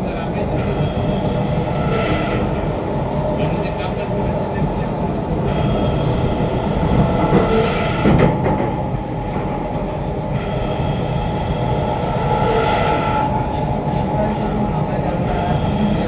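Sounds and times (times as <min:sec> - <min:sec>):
train wheel and rail rumble: 0:00.0 - 0:16.0
rail clicks: 0:03.0 - 0:16.0.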